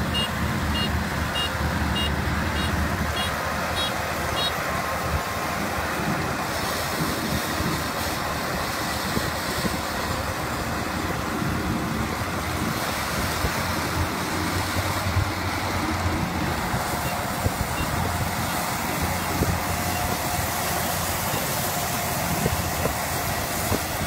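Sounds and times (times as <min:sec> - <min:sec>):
combine harvesters running: 0:00.0 - 0:24.0.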